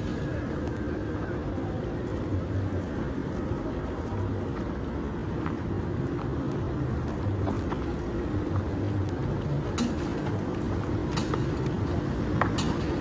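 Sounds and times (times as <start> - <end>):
vehicle engines in slow traffic: 0.0 - 13.0.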